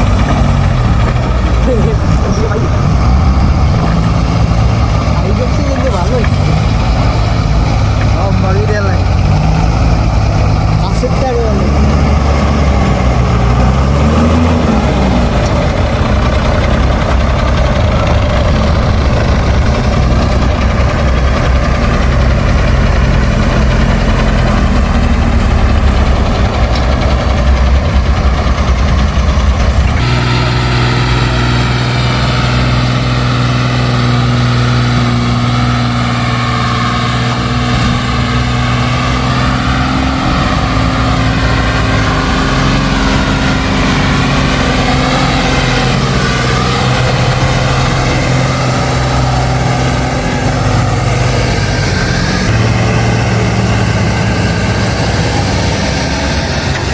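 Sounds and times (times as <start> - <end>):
heavy machine engine running: 0.0 - 56.9.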